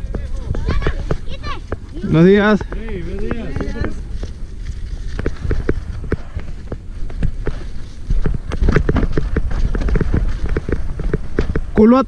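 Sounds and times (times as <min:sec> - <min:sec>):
mountain bike clattering down trail: 0:00.0 - 0:12.0.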